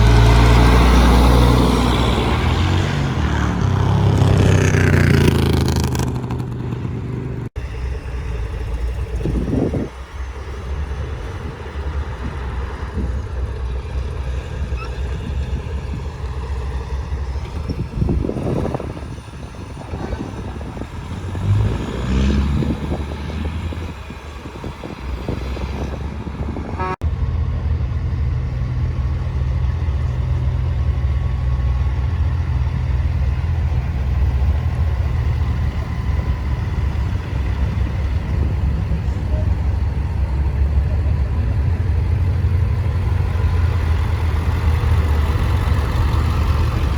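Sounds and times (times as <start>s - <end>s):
truck engines running: 0.0s - 46.9s.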